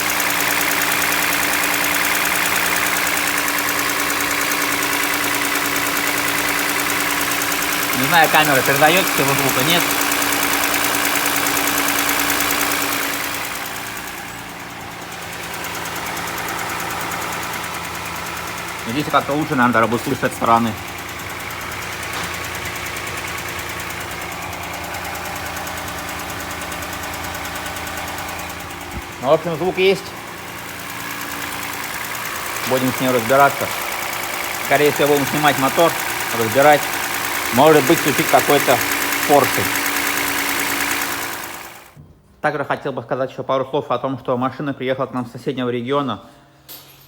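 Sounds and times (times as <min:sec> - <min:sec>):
car engine idling with knock: 0:00.0 - 0:42.1.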